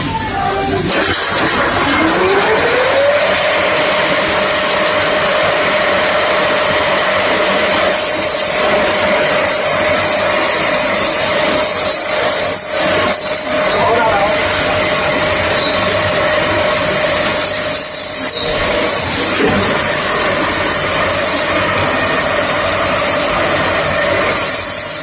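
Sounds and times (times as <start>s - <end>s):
lathe mechanical din: 0.0s - 25.0s
machine whine: 0.0s - 25.0s.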